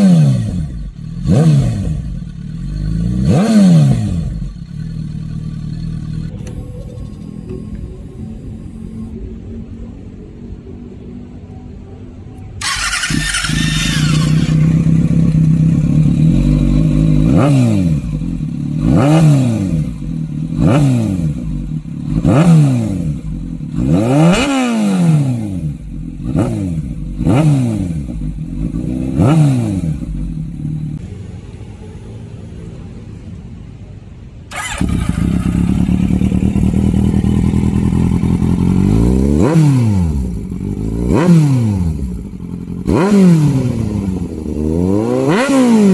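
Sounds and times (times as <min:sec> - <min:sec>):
motorcycle engine revving: 0:00.0 - 0:09.1, 0:12.6 - 0:31.0, 0:34.5 - 0:45.9.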